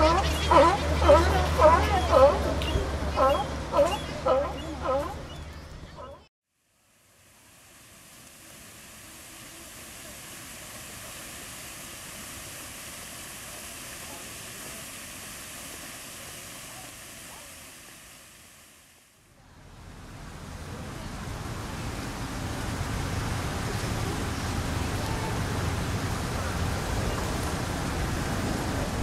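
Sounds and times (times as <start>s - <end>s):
fountain jets splashing: 0.0s - 6.1s, 7.0s - 29.0s.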